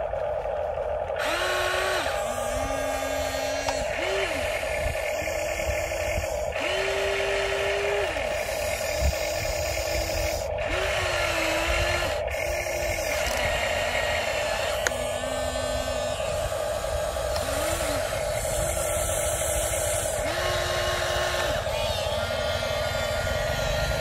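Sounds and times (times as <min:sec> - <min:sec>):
electric motors whining: 0:00.0 - 0:24.0
steady hum: 0:00.0 - 0:24.0.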